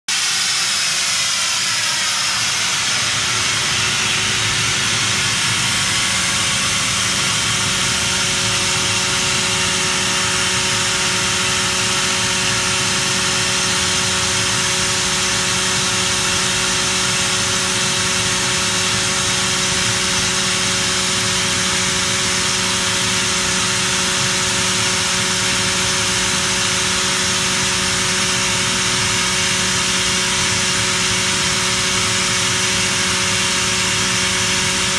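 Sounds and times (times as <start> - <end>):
air compressor hissing and humming: 0.1 - 34.9.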